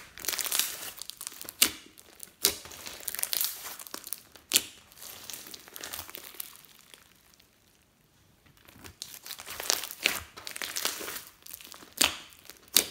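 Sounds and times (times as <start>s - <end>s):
slime crackling and popping: 0.0s - 7.9s, 8.6s - 12.9s.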